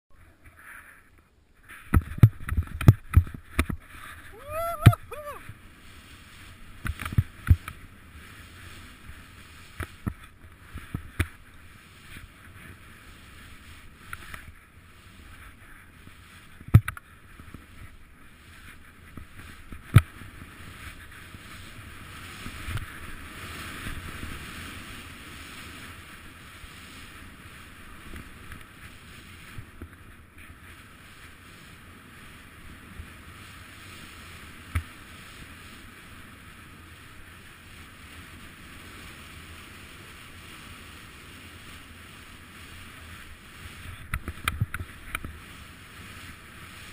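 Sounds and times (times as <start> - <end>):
wind: 0.1 - 46.9
skis running through snow: 0.4 - 46.9.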